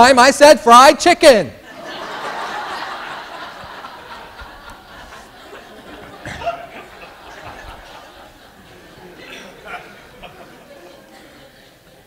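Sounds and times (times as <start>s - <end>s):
congregation laughing: 1.6s - 12.0s.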